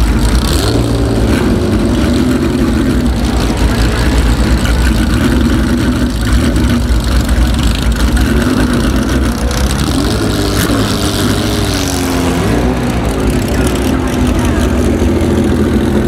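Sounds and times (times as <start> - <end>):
race car engine idling: 0.0 - 16.0.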